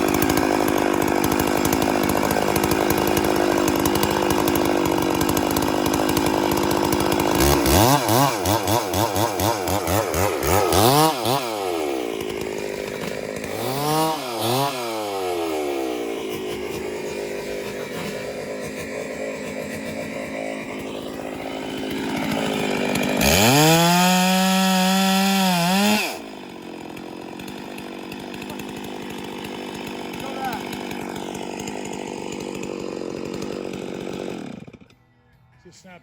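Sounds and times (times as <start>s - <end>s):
chainsaw revving: 0.0s - 34.9s.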